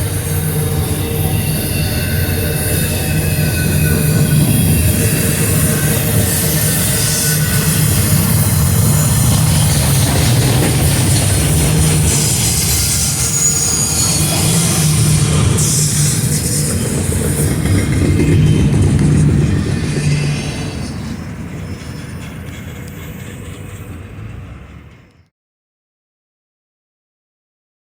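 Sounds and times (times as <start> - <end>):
high wheel squeal: 0.0 - 25.2
train railcars rumbling: 0.0 - 25.3.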